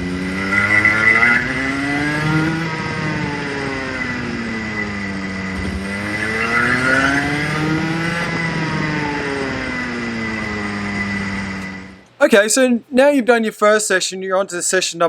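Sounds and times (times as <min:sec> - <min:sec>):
go-kart engine revving: 0:00.0 - 0:12.2.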